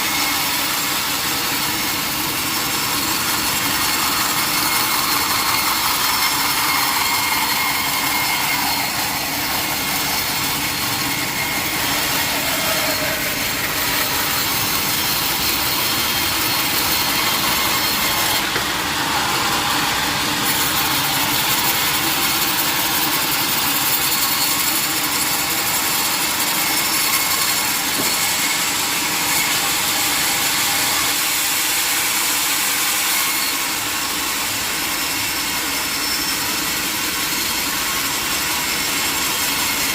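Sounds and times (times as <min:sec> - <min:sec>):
saw blade cutting log: 0:00.0 - 0:39.9.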